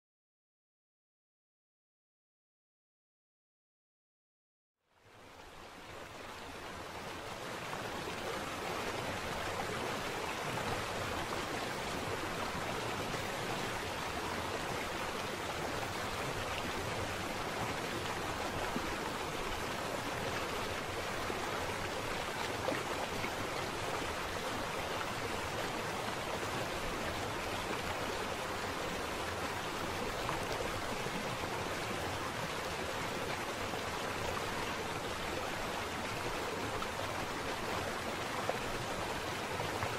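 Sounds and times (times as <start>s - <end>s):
river water over stones: 5.0s - 39.9s.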